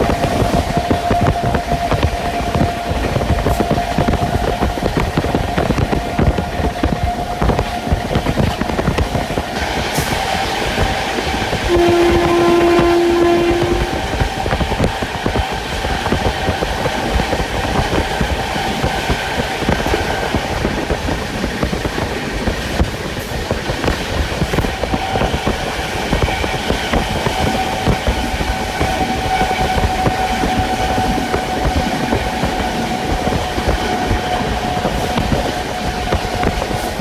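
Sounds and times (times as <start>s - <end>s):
clickety-clack over rail joints: 0.0s - 37.0s
train wheels rumbling on rails: 0.0s - 37.0s.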